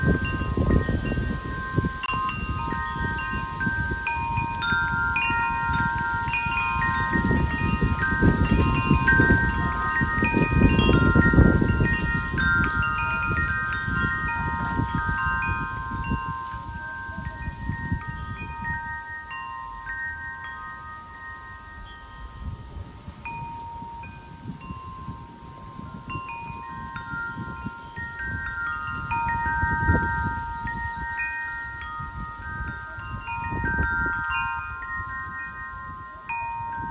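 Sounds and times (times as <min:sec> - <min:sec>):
wind chimes ringing: 0:00.0 - 0:36.9
wind rumble on microphone: 0:00.0 - 0:36.9.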